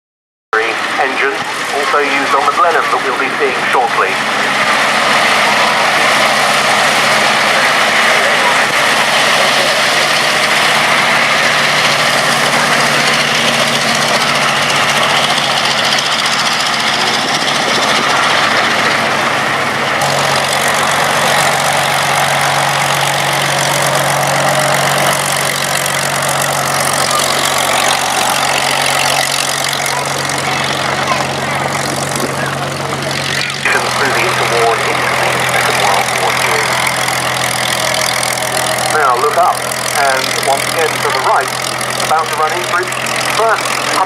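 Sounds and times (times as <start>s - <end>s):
piston aero engines droning: 0.6s - 44.0s.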